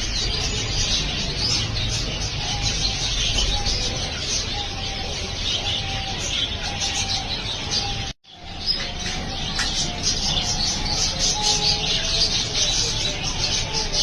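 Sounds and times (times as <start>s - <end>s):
budgerigars chattering: 0.0s - 14.0s.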